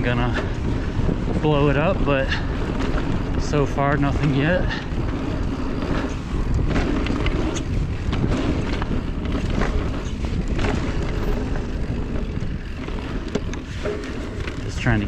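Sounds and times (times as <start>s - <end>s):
bike clicks and rattles: 0.0s - 15.0s
tyres rumbling on dirt: 0.0s - 15.0s
wind buffeting microphone: 0.0s - 15.0s.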